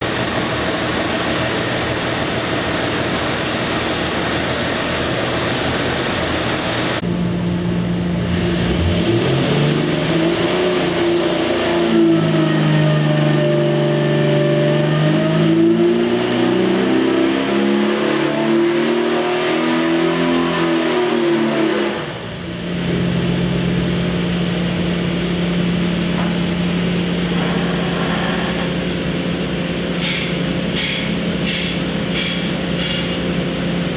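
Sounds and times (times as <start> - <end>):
engine running and revving: 0.0 - 7.0, 8.2 - 29.5.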